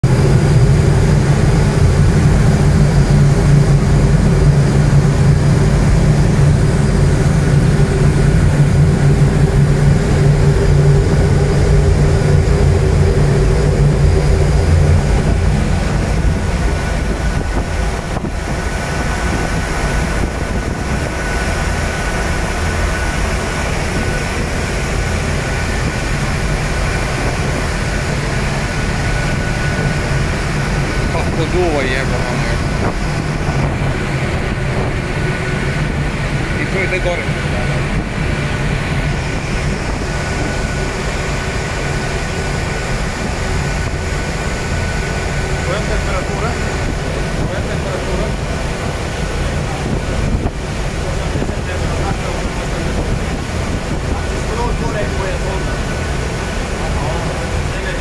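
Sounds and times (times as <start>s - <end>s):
faint steady whine: 0.0s - 58.0s
gas burners roaring: 0.0s - 58.0s.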